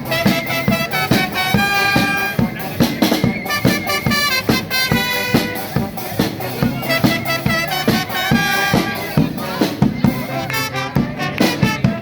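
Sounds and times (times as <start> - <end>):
brass and woodwind melody: 0.0 - 12.0
steady drum beat: 0.0 - 12.0.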